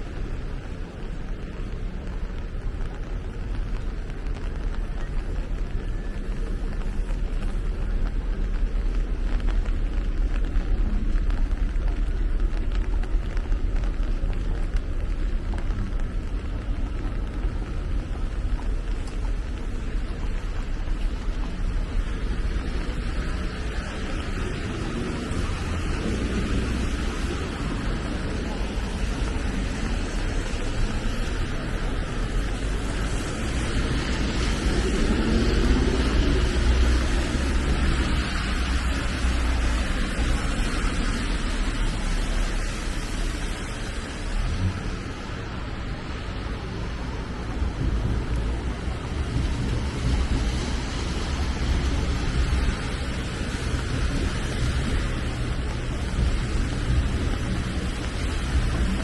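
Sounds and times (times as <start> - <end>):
low rumble: 0.0 - 59.0
steady rain: 0.0 - 59.0.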